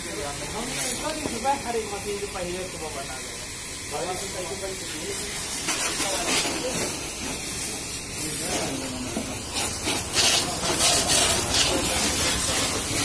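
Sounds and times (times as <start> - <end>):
water spray hissing on car: 0.0 - 13.0.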